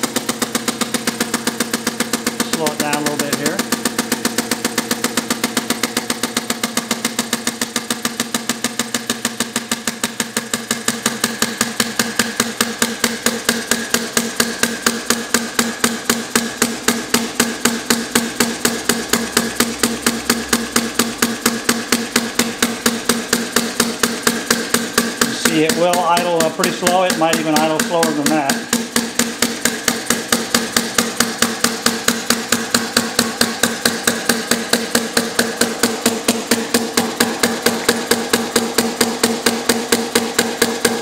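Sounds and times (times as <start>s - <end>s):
model engine popping: 0.0s - 41.0s.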